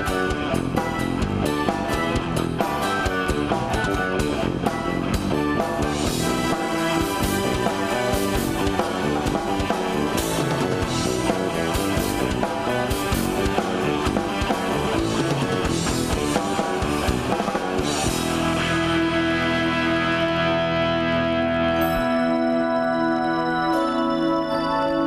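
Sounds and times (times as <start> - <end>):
drum kit with cymbal hits: 0.0 - 20.2
bass guitar: 0.0 - 24.8
electric guitar: 0.0 - 25.0.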